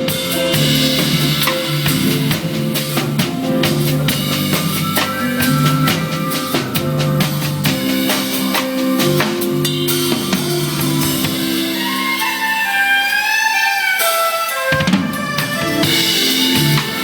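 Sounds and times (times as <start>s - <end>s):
backing band music: 0.0s - 17.0s
drum kit playing: 0.0s - 17.0s.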